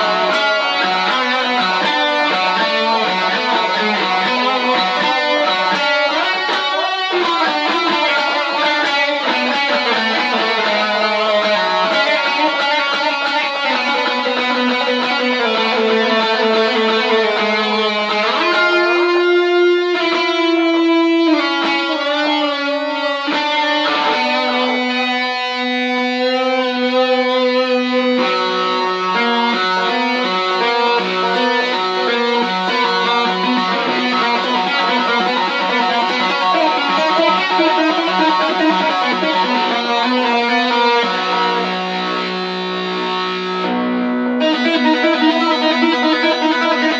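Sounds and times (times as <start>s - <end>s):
electric guitar with echo: 0.0s - 46.9s.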